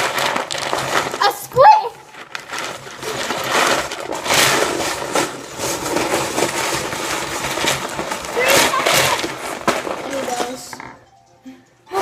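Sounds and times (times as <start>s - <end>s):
plastic bricks clattering: 0.0s - 11.1s.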